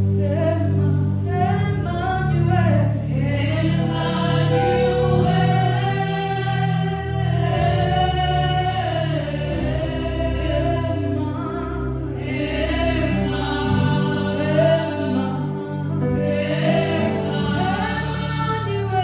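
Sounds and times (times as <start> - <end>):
group singing gospel song: 0.0 - 19.0
low bass notes: 0.0 - 19.0.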